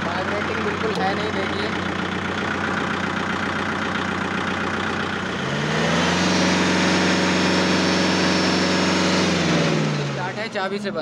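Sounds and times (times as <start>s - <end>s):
diesel engine idling and revving: 0.0s - 11.0s.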